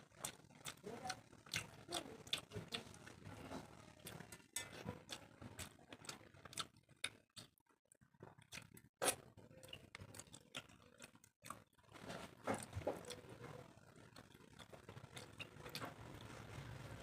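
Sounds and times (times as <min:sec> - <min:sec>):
chewing: 0:00.1 - 0:16.7.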